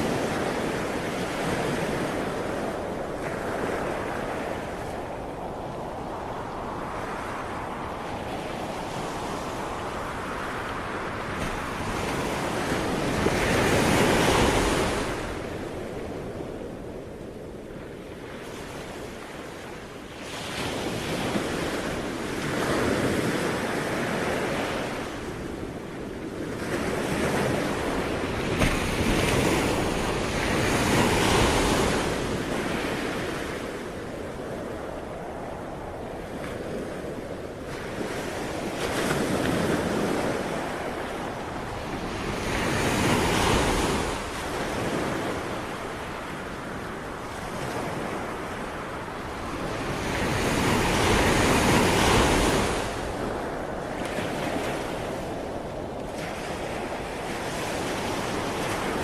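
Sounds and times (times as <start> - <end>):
ocean waves breaking on shore: 0.0 - 59.0
wind: 0.0 - 59.0.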